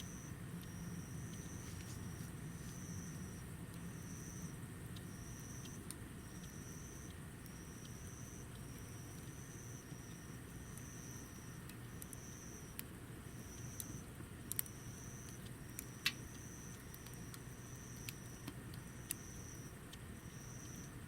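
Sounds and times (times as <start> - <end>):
insect calling: 0.0 - 21.0
wood crackling in a stove: 0.0 - 21.0.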